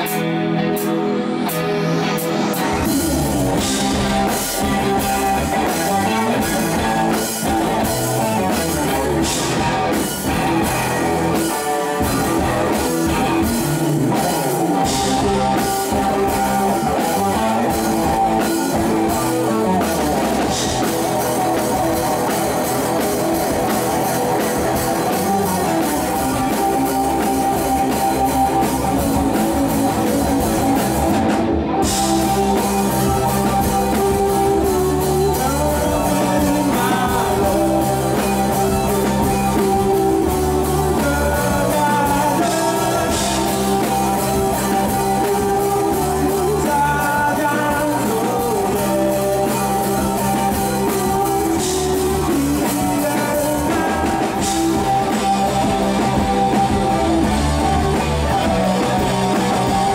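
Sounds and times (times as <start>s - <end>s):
drum kit: 0.0s - 59.9s
electric bass: 0.0s - 59.9s
electric guitars: 0.0s - 59.9s.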